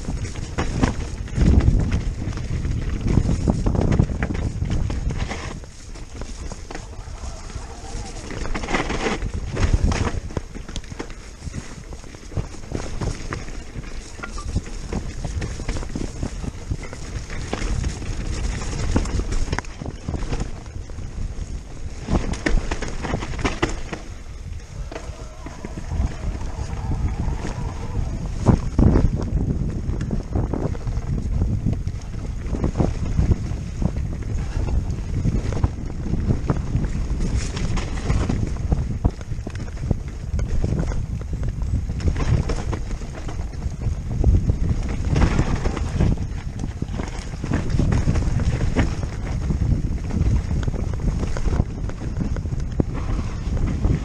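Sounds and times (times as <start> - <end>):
bike knocking and rattling: 0.0 - 54.0
tyres rolling on dirt: 0.0 - 54.0
wind buffeting microphone: 0.0 - 54.0.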